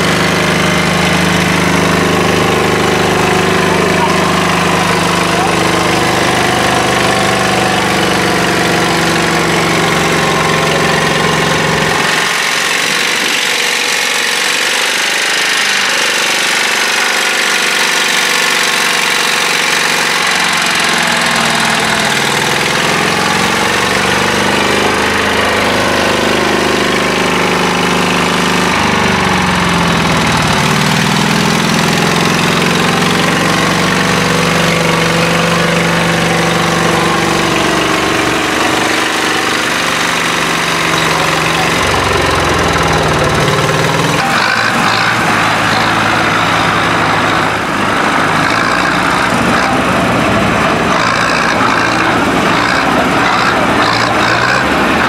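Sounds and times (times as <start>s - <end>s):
tractor engine revving: 0.0s - 55.0s.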